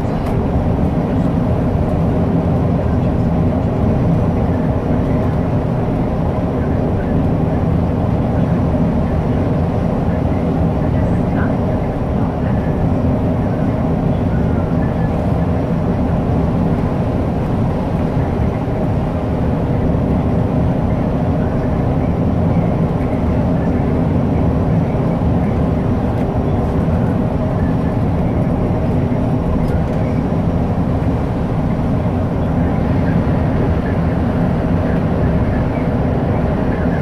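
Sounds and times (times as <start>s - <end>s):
bus engine and road noise: 0.0s - 37.0s.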